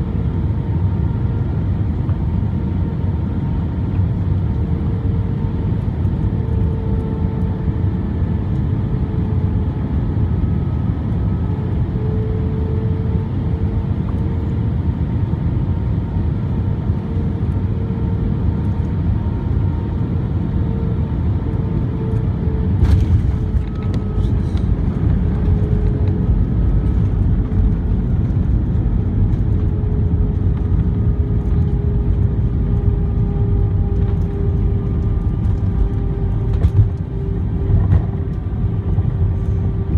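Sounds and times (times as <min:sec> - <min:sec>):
aircraft cabin engine rumble: 0:00.0 - 0:39.9
faint engine whine: 0:00.0 - 0:39.9.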